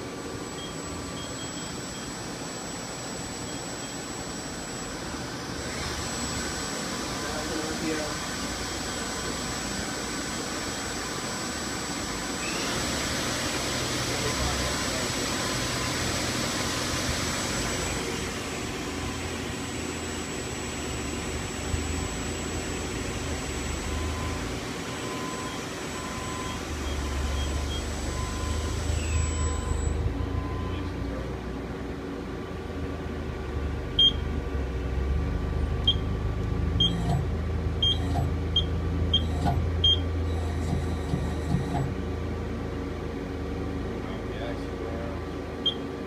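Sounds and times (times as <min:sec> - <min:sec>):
lathe humming with high whine: 0:00.0 - 0:46.0.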